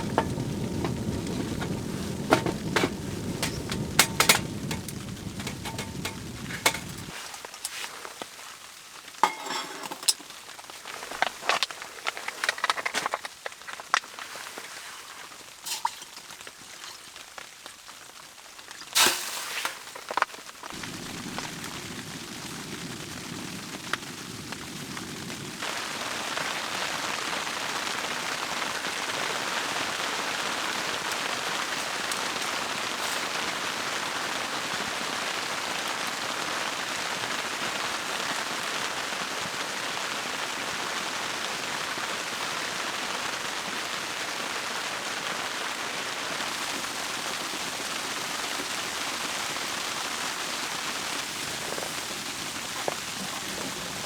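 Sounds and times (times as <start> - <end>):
rain hissing: 0.0 - 12.8, 15.4 - 16.5, 18.9 - 54.0.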